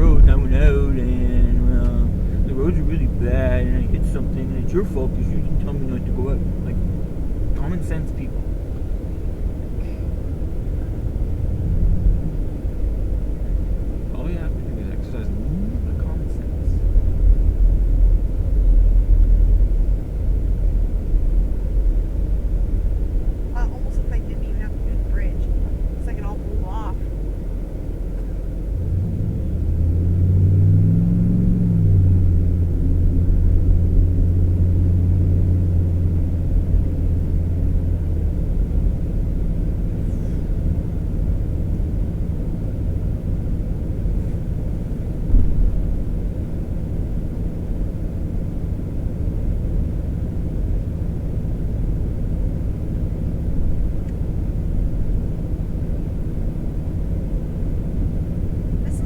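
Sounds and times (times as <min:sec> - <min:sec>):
road rumble: 0:00.0 - 0:59.0
truck engine: 0:00.0 - 0:59.0.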